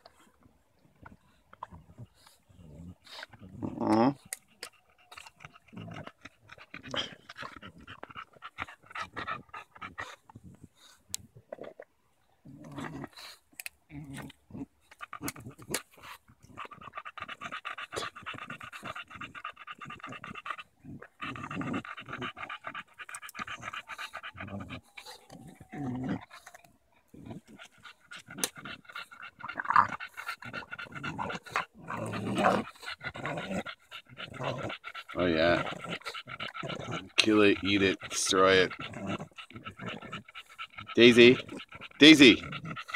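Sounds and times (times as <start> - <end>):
dog panting: 1.0 - 11.2, 14.9 - 42.9.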